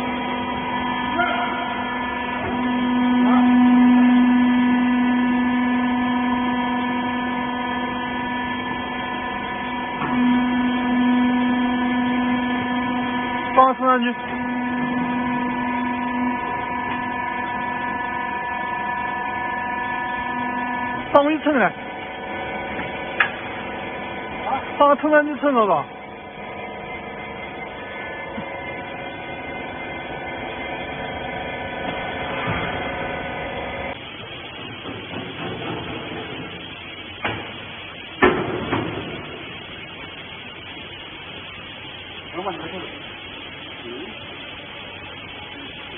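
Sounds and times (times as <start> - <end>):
hydraulic unit electric hum: 0.0 - 45.9.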